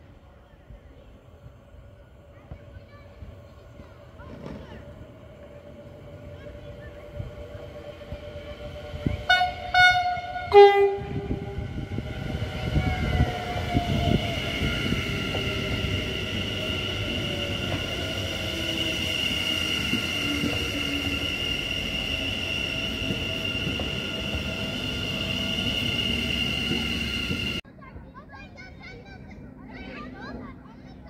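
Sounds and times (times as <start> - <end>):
wheels rumbling on rails: 0.0 - 27.6
electric train whine: 0.1 - 27.6.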